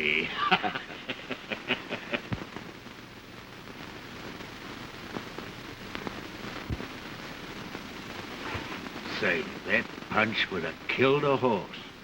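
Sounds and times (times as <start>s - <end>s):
film soundtrack hiss and crackle: 0.0s - 12.0s.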